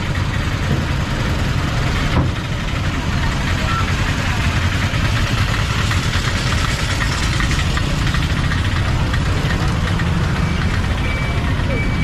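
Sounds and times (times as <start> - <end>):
busy traffic din: 0.0 - 12.0
engines idling in traffic: 0.0 - 12.0.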